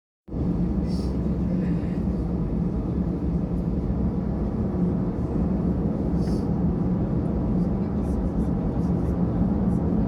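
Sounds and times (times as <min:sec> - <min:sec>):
airplane cabin drone: 0:00.3 - 0:10.0.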